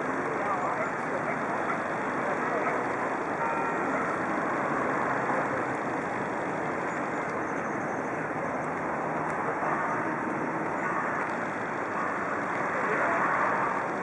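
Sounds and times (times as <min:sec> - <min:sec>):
motor traffic noise: 0:00.0 - 0:14.0.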